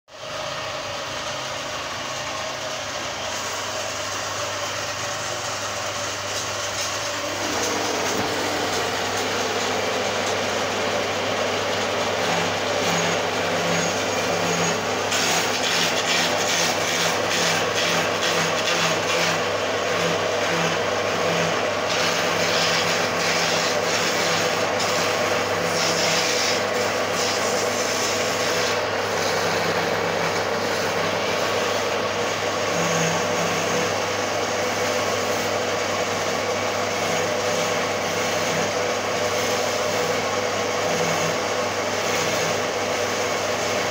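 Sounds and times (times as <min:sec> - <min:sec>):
chisel cutting spinning wood: 0:00.2 - 0:43.9
wood lathe humming: 0:00.2 - 0:43.9.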